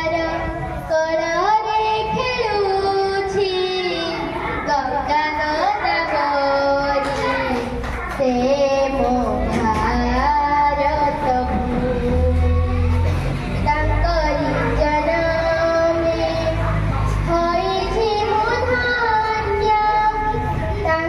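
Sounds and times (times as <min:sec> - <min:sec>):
child singing: 0:00.0 - 0:21.0.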